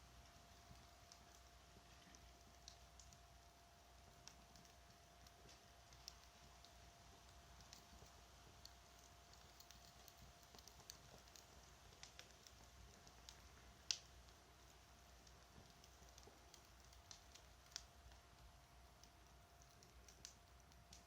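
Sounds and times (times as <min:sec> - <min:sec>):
campfire crackling: 0:00.0 - 0:21.0
fire pops and snaps: 0:00.2 - 0:21.0.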